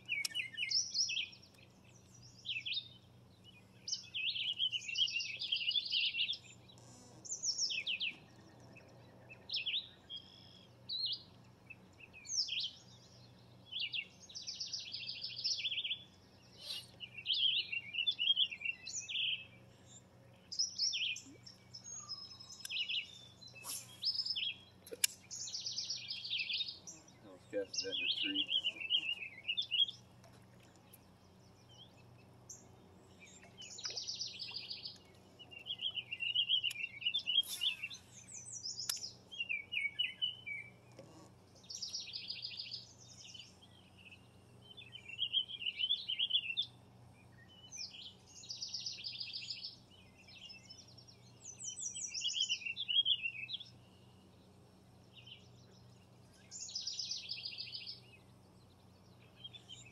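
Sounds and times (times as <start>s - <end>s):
faint low hum: 0.0s - 59.9s
songbird singing buzzy trills: 0.0s - 59.9s.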